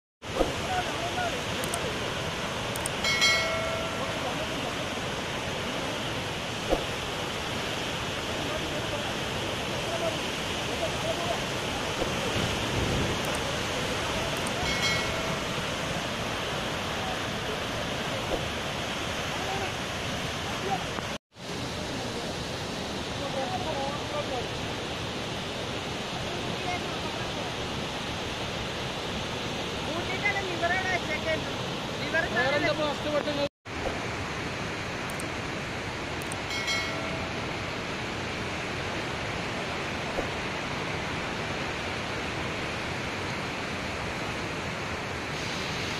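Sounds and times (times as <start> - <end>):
waterfall rushing: 0.3 - 45.9.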